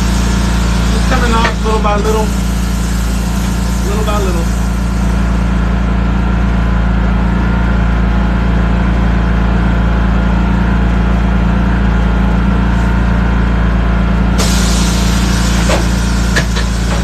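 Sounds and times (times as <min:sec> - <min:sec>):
engine idling drone: 0:00.0 - 0:17.0.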